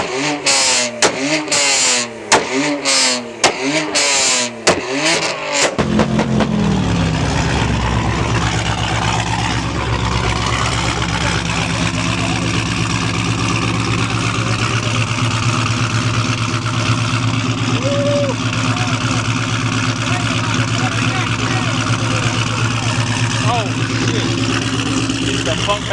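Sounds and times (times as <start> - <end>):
car engine revving and idling: 0.0 - 25.9.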